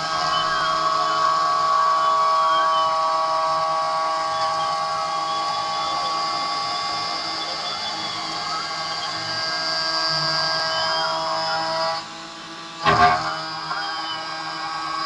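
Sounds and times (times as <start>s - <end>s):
cnc router milling metal: 0.0s - 15.0s
gliding machine motor tones: 0.0s - 15.0s.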